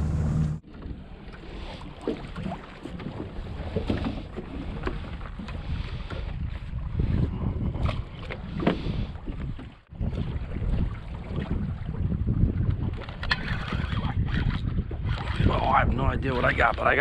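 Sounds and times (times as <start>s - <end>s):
water slapping boat hull: 0.0s - 17.0s
wind buffeting microphone: 2.4s - 17.0s.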